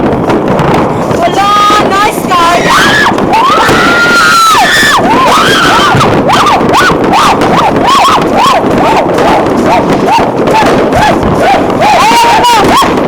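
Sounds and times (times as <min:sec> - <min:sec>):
firecrackers banging: 0:00.0 - 0:13.0
whistling fireworks: 0:00.0 - 0:13.0.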